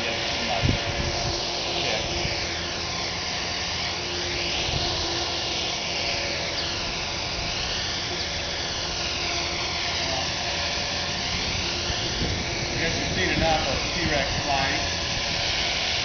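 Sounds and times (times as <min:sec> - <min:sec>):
rc helicopter rotor whine: 0:00.0 - 0:16.0.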